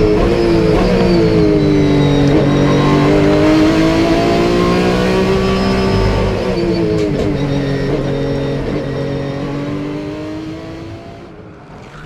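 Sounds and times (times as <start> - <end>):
race car engine: 0.0 - 12.0.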